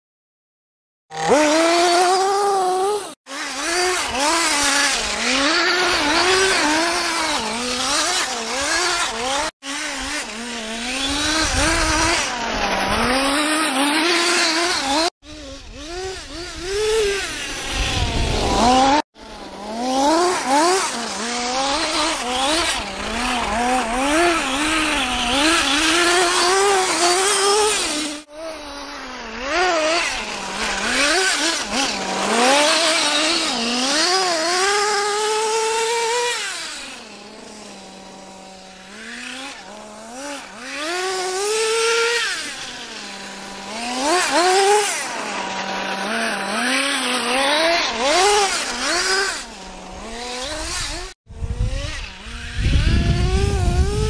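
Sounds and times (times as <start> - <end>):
model engine revving: 1.1 - 54.0.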